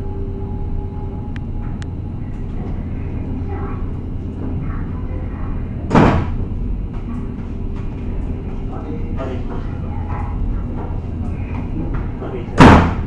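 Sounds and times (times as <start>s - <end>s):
ferry engines rumbling: 0.0s - 13.0s.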